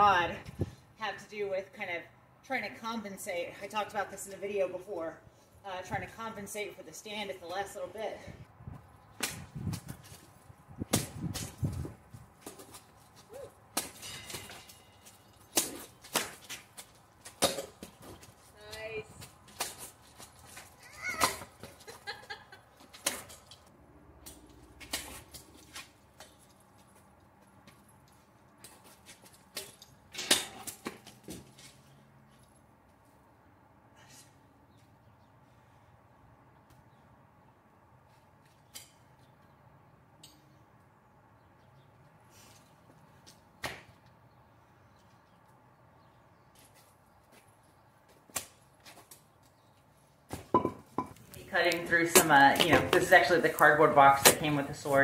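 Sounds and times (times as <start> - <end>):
faint outdoor background: 0.0 - 55.0.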